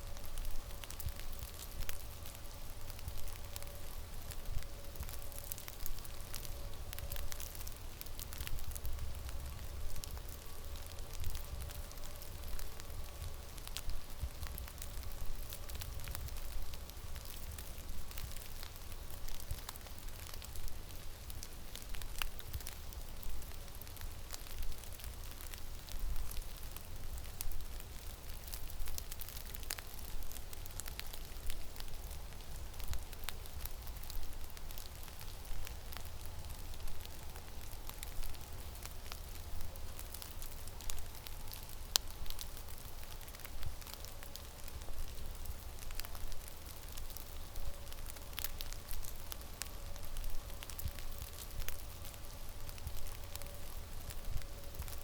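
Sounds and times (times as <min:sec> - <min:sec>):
small scattered ticks: 0:00.0 - 0:55.0
steady hiss: 0:00.0 - 0:55.0.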